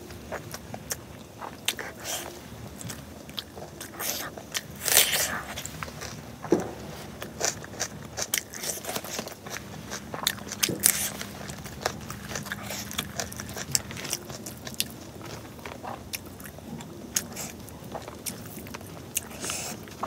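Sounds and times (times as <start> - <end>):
wet chewing and lip smacks: 0.3 - 20.0.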